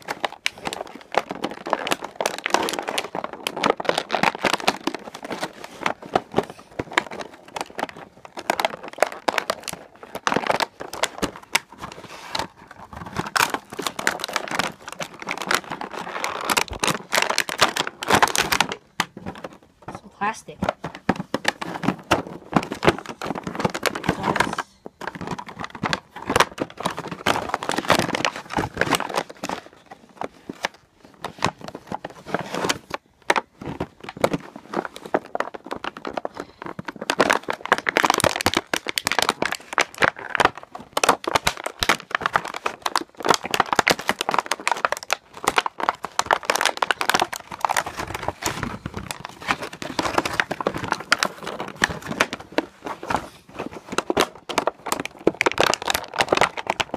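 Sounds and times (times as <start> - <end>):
plastic packaging crinkling: 0.0 - 56.9.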